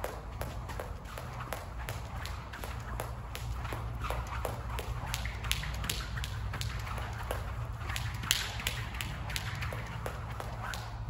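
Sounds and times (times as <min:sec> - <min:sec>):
jump rope slapping floor: 0:00.0 - 0:11.0.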